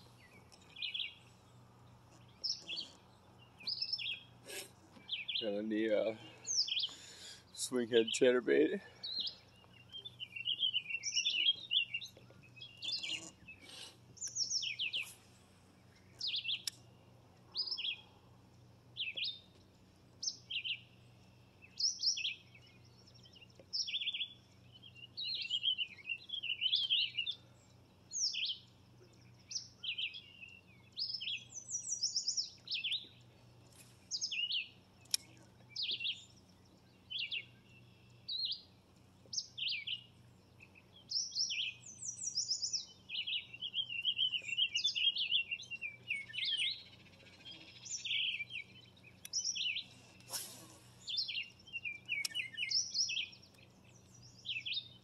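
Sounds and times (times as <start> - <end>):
faint low hum: 0.0 - 55.0
songbird chirping: 0.0 - 55.0.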